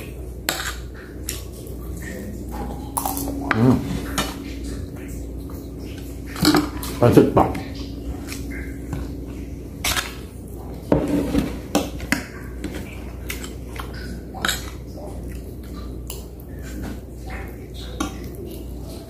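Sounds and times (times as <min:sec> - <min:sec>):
low hum: 0:00.0 - 0:17.9.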